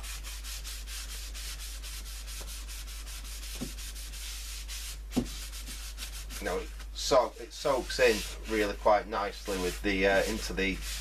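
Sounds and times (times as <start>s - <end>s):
paper pad rubbing on wood: 0.0s - 6.8s, 7.5s - 11.0s.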